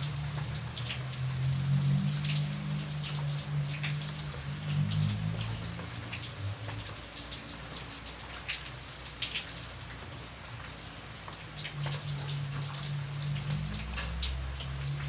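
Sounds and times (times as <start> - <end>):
light rain falling: 0.0 - 15.0
raindrops striking close by: 0.0 - 15.0.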